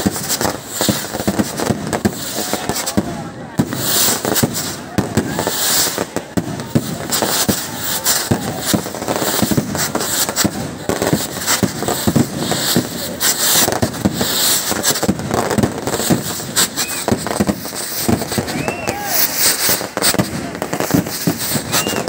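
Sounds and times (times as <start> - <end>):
firecrackers popping and banging: 0.0 - 22.0
fireworks rockets launching hissing: 0.0 - 22.0.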